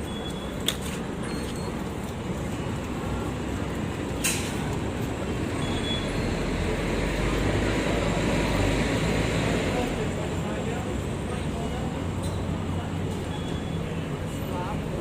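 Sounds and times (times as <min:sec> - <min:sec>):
low rumble of vehicle or train: 0:00.0 - 0:15.0.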